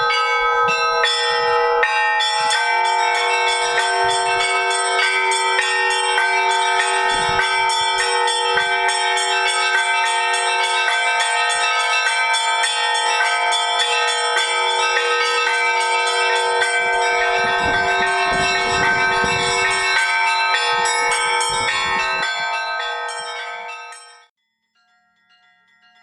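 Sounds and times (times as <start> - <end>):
church bells pealing: 0.0 - 24.3.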